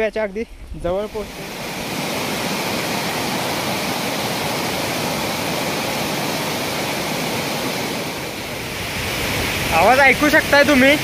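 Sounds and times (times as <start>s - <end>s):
waterfall: 0.8s - 11.0s
rocky stream rushing: 1.1s - 11.0s.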